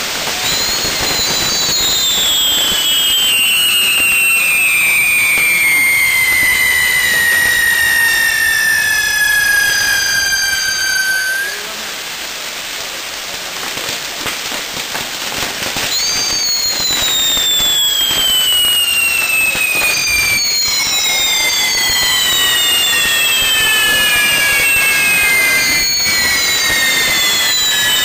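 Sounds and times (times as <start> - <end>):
fireworks crackling and hissing: 0.0 - 28.0
fireworks whistling: 0.0 - 28.0.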